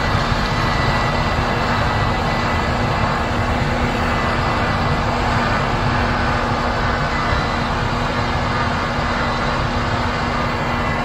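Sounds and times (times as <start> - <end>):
combine harvester and tractor running: 0.0 - 11.0.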